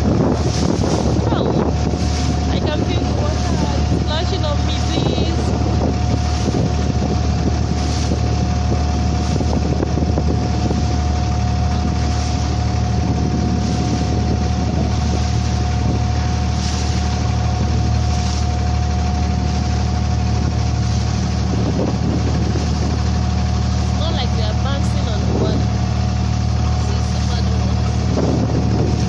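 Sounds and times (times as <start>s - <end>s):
boat engine humming: 0.0s - 29.0s
water rushing: 0.0s - 29.0s
wind on microphone: 0.0s - 29.0s.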